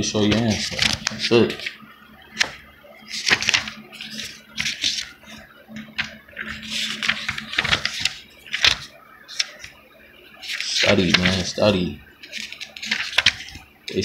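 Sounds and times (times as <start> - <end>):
book pages rustling: 0.2 - 1.8, 2.4 - 9.8, 10.4 - 11.5, 12.2 - 13.7.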